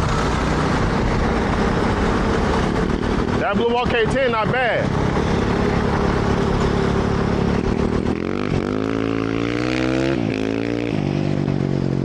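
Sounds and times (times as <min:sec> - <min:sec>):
dirt bike engine accelerating: 0:00.0 - 0:12.0.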